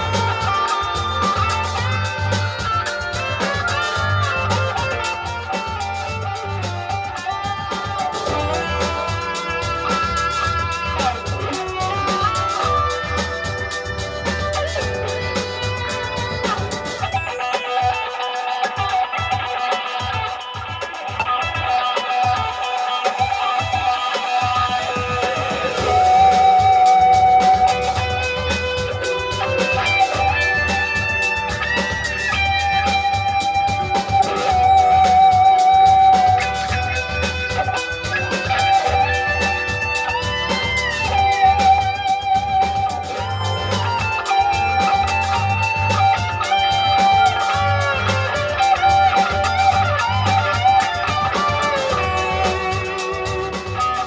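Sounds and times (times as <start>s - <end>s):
bass: 0.0s - 17.3s, 24.8s - 54.0s
guitars: 0.0s - 54.0s
lead line holding long notes: 0.0s - 54.0s
steady drum beat: 0.0s - 54.0s.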